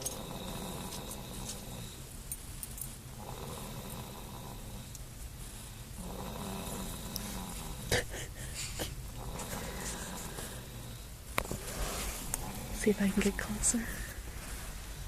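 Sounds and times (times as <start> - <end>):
baby snoring: 0.0 - 2.1, 3.2 - 4.9, 6.0 - 14.5.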